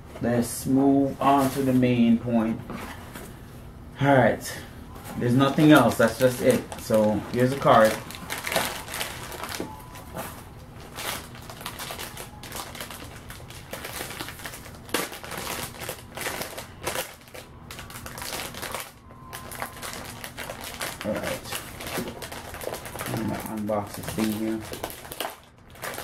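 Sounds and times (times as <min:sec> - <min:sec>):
plastic bag crinkling: 0:04.9 - 0:26.0.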